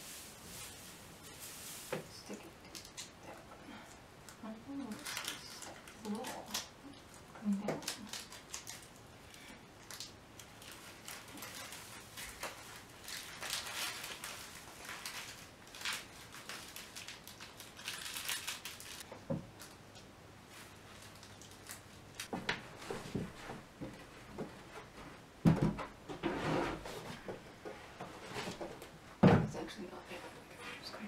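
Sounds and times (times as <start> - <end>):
foil curtain rustling and crinkling: 0.0 - 24.9.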